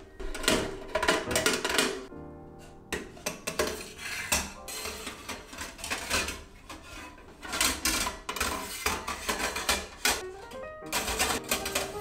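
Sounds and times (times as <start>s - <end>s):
metal pipe parts clanking: 0.2s - 2.1s, 3.0s - 12.0s.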